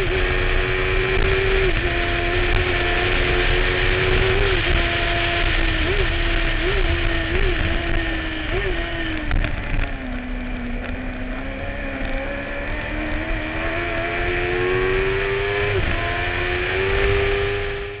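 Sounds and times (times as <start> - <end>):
racing engine at full throttle: 0.0 - 18.0.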